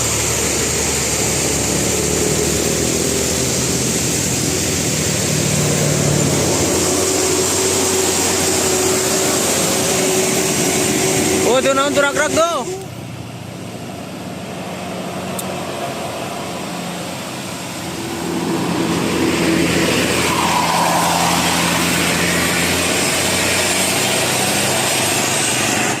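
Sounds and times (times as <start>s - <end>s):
road vehicle passing: 0.0s - 26.0s.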